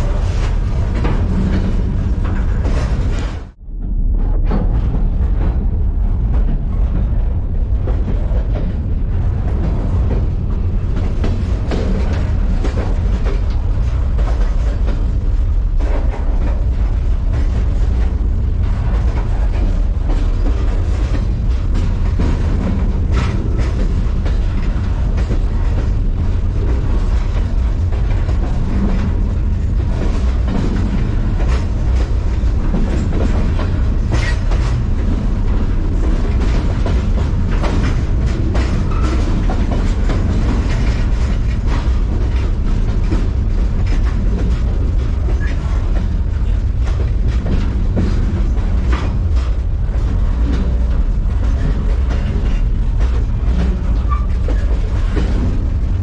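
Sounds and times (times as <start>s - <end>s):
freight train rumble and rattle: 0.0s - 56.0s
wheels clicking over rail joints: 5.1s - 56.0s.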